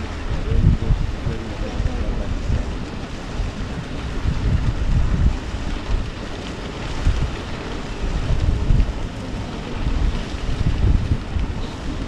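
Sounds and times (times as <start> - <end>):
steady rushing hiss: 0.0 - 12.0
wind buffeting microphone: 0.0 - 12.0.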